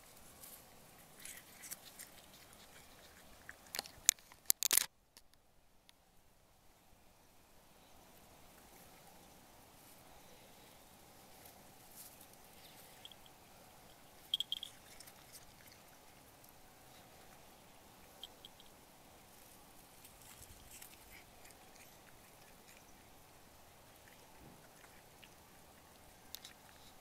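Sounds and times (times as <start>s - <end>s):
cat chewing grass: 0.0s - 4.9s, 9.8s - 27.0s.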